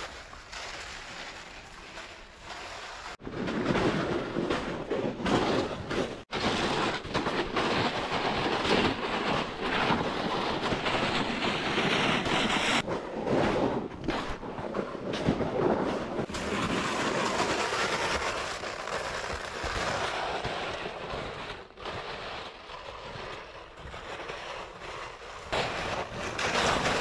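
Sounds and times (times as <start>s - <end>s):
plastic sled scraping over snow: 0.0s - 27.0s.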